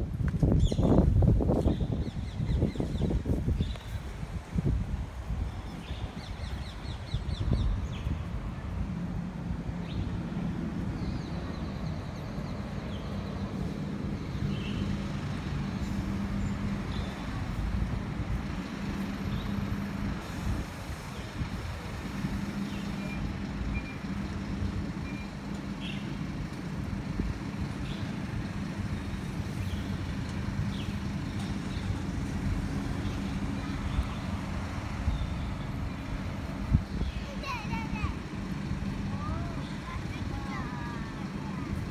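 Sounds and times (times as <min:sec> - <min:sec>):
faint passing vehicles: 0:00.0 - 0:41.9
low engine hum: 0:00.0 - 0:41.9.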